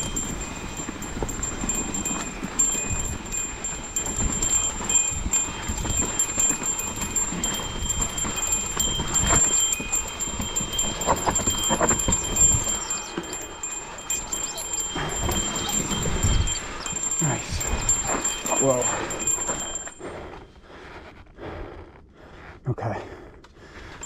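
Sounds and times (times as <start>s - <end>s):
tyres crunching over dirt and stones: 0.0s - 19.9s
bike chain and frame rattling: 0.0s - 20.4s.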